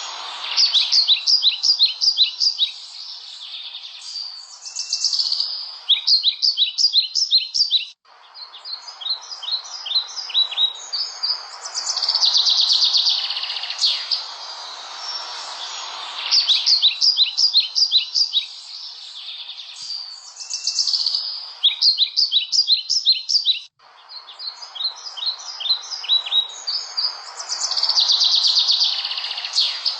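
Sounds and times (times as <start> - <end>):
steady background hiss: 0.0 - 7.4, 8.0 - 29.9
songbirds chirping: 0.0 - 29.9.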